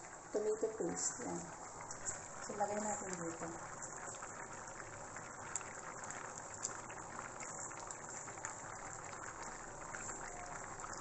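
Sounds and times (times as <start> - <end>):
pot bubbling at a boil: 0.0 - 11.0.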